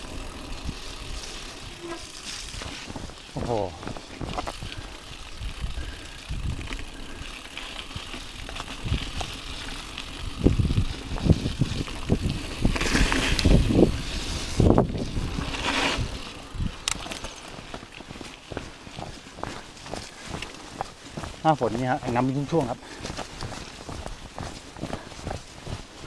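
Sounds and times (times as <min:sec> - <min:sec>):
bike tyres on dirt trail: 0:00.0 - 0:26.0.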